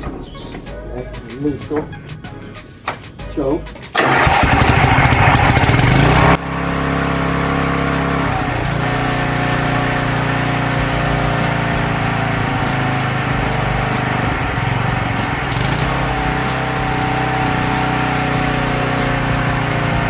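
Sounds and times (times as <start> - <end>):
small petrol engine running: 3.9 - 20.0.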